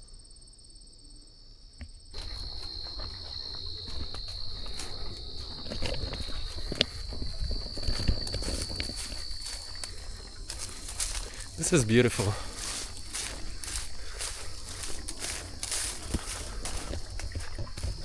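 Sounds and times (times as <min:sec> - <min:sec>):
high insect trill: 0:00.0 - 0:18.0
footsteps crunching on a trail: 0:01.8 - 0:18.0.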